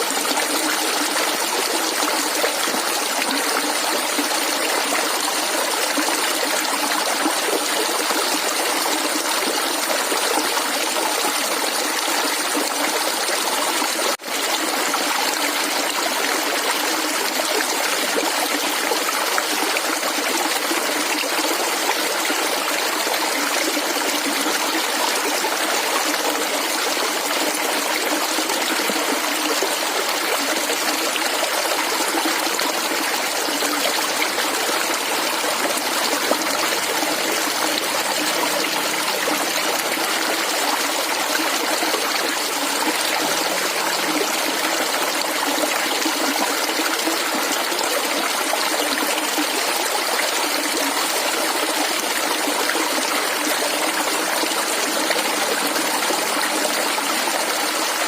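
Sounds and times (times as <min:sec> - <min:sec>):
running water gurgling: 0:00.0 - 0:58.0.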